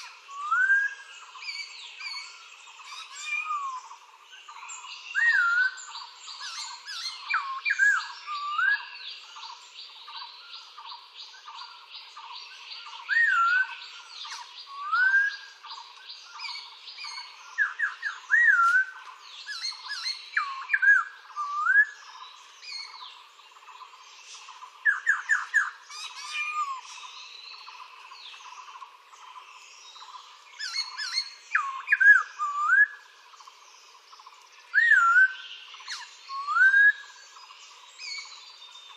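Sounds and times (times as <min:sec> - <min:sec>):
birds whistling: 0:00.0 - 0:38.9.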